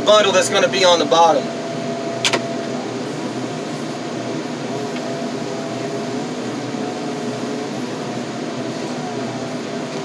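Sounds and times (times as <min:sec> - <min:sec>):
diesel engine running steadily: 0:00.0 - 0:10.0
hydraulic whine: 0:00.0 - 0:10.0.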